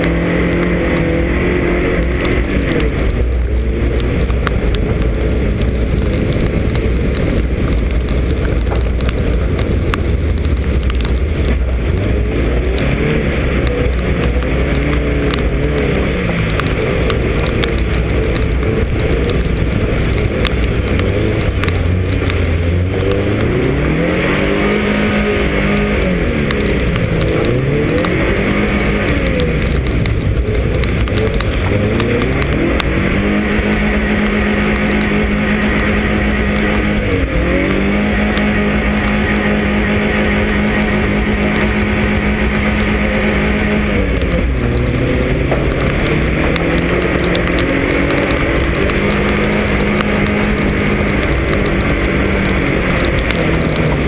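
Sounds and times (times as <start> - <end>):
constant rushing noise: 0.0 - 54.0
rally car engine accelerating: 0.0 - 54.0.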